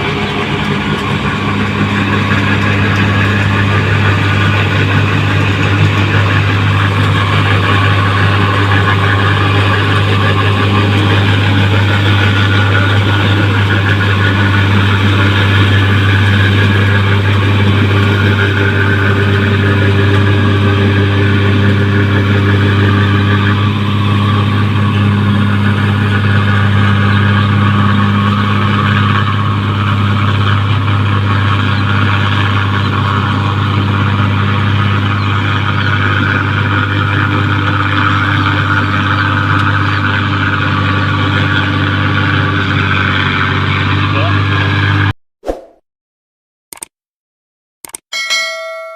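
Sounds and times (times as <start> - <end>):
combine harvester engine hum: 0.0 - 45.1
machinery rattling: 0.0 - 45.1.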